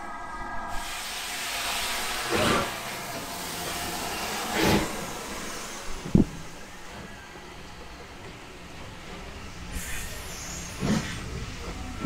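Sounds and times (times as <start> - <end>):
steam locomotive passing: 0.0 - 12.0
hiss of escaping steam: 0.7 - 7.8, 8.6 - 11.7
steam bursts: 0.7 - 7.8, 8.8 - 12.0.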